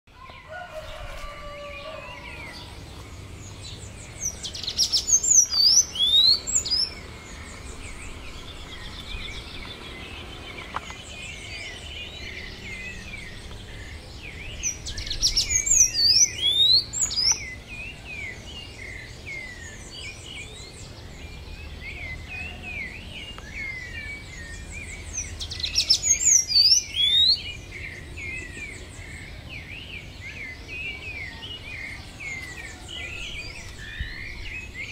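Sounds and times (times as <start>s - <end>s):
bird singing loud rapid song: 0.1s - 34.9s
birds chirping: 0.1s - 34.9s.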